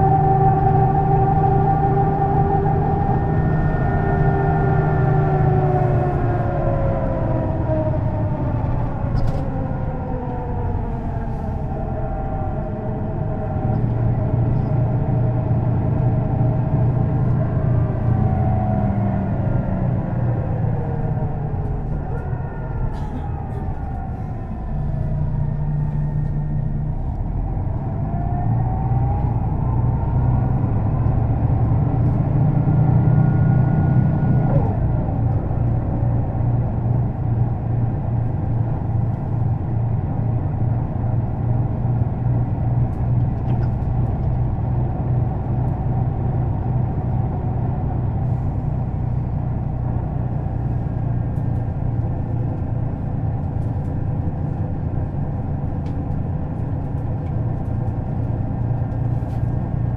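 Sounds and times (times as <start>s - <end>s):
bus diesel engine idling: 0.0s - 28.1s, 34.8s - 59.9s.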